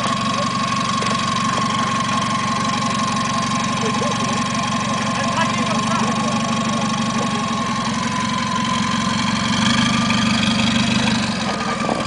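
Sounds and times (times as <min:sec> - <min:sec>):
off-road vehicle engine low revs: 0:00.0 - 0:12.0.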